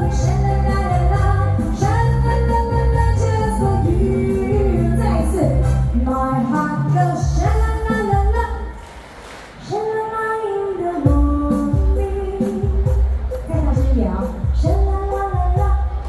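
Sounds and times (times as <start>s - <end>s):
woman singing into microphone: 0.0s - 8.9s, 9.6s - 16.0s
live band playing: 0.0s - 9.5s, 11.1s - 16.0s.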